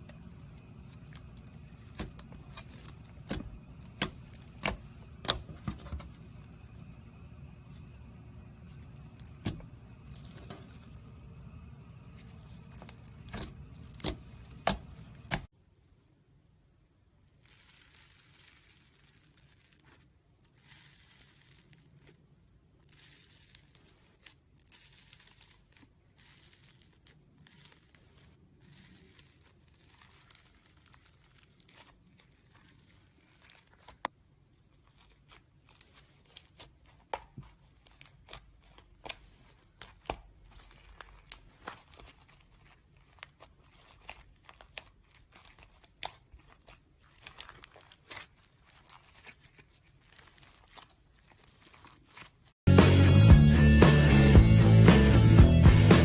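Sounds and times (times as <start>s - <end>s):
slime squishing: 0.0s - 15.5s, 17.3s - 52.6s.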